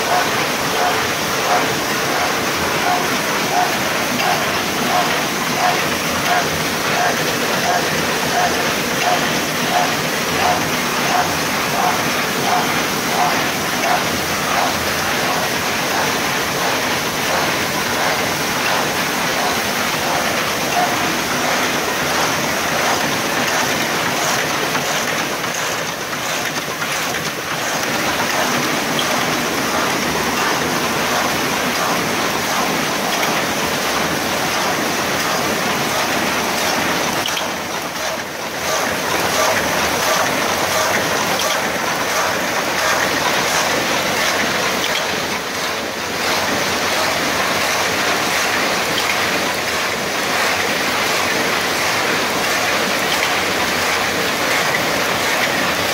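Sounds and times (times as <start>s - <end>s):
die-cutting press clattering: 0.0s - 55.9s.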